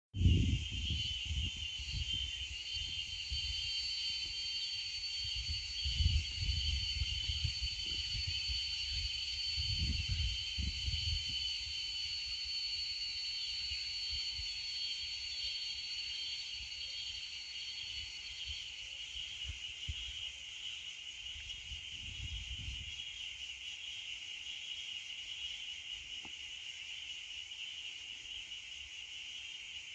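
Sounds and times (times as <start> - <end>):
frogs or insects calling: 0.2 - 29.9.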